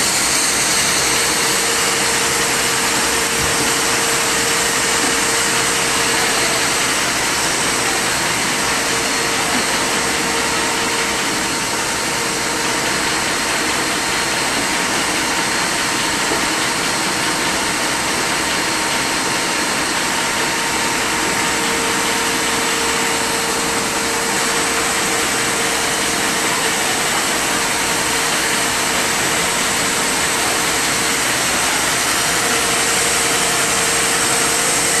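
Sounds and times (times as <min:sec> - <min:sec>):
machine whir: 0:00.0 - 0:35.0.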